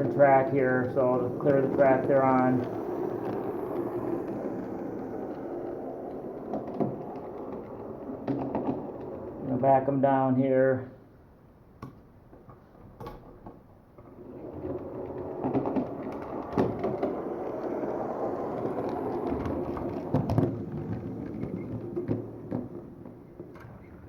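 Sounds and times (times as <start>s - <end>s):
wheels and couplings clicking: 0.0s - 10.1s, 11.8s - 24.0s
model train rumbling on track: 0.0s - 10.4s, 14.2s - 23.6s.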